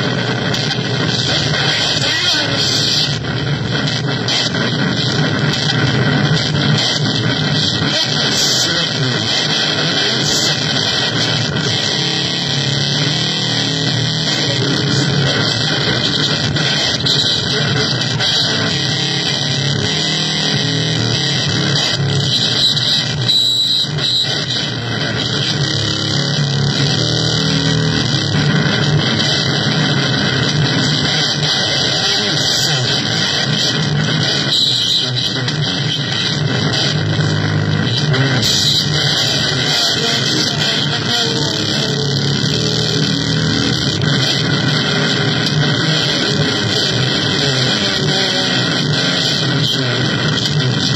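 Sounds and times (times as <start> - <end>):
distorted electronic noise music: 0.0 - 50.9.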